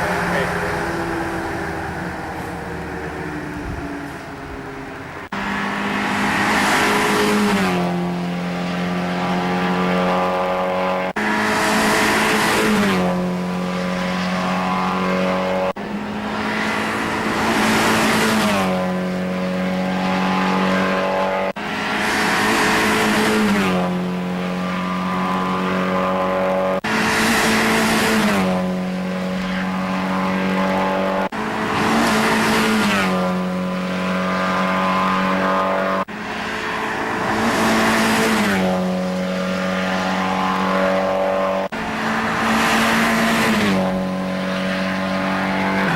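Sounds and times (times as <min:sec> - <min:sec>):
race cars passing at speed: 0:00.0 - 0:45.9.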